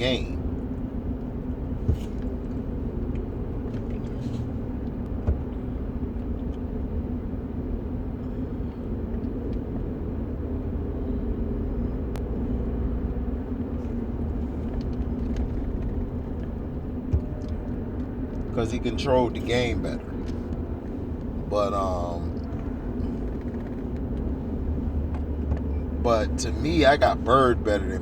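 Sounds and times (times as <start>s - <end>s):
low vehicle rumble: 0.0s - 28.0s.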